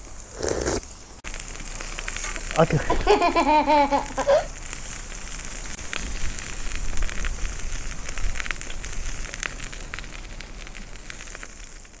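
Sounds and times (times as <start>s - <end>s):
wet snow pattering: 0.3s - 12.0s.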